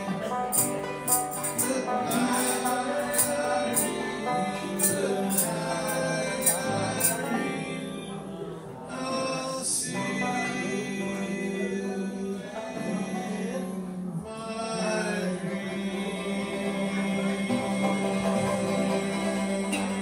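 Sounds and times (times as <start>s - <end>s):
banjo playing: 0.0s - 20.0s
voices singing along: 0.0s - 20.0s.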